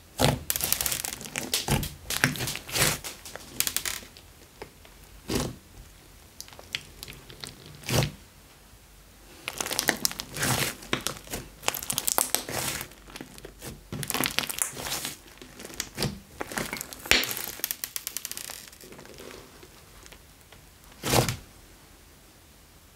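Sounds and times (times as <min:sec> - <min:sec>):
slime crackling and squelching: 0:00.2 - 0:08.2, 0:09.3 - 0:21.4.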